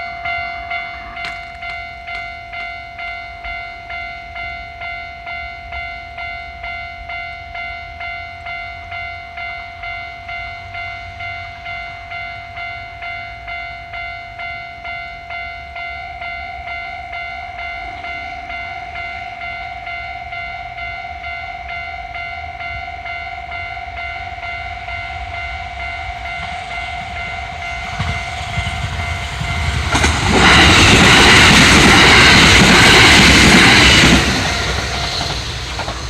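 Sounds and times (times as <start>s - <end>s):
railroad crossing bell ringing: 0.0s - 36.0s.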